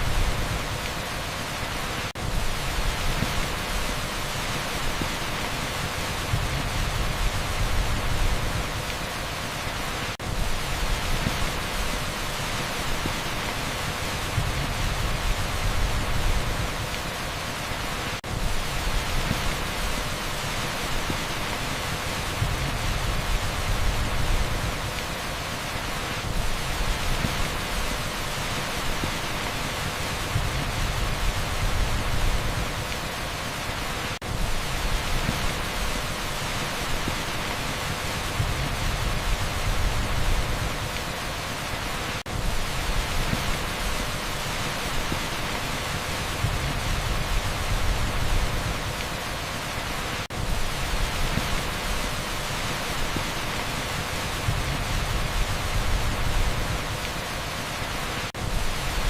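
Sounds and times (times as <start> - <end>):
pink noise hiss: 0.0 - 59.0
torrential rain on asphalt: 0.0 - 59.0.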